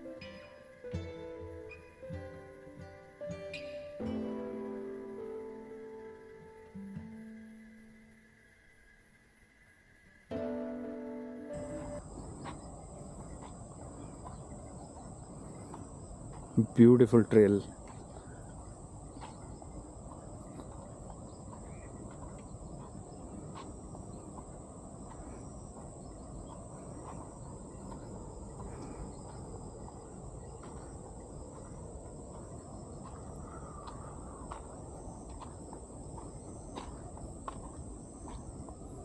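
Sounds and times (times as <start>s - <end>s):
faint bird chirps: 0.0s - 37.2s
crickets droning: 0.0s - 39.0s.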